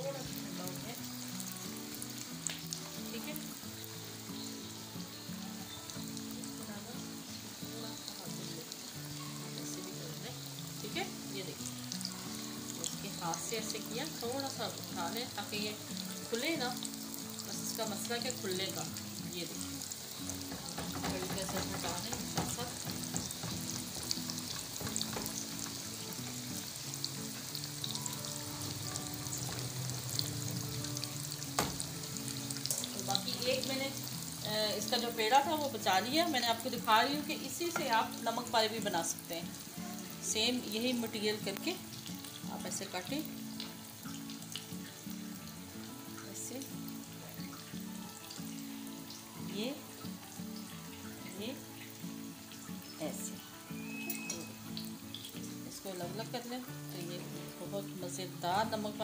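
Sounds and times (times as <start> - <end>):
low background music: 0.0 - 59.0
oil sizzling in a pan: 0.0 - 59.0.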